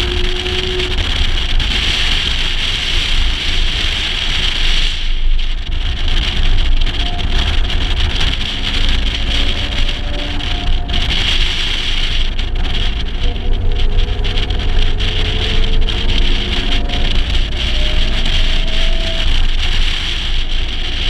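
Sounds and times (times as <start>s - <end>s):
car engine: 0.0s - 21.0s
low rumble: 0.0s - 21.0s
road noise: 0.0s - 21.0s
wind buffeting microphone: 0.0s - 21.0s.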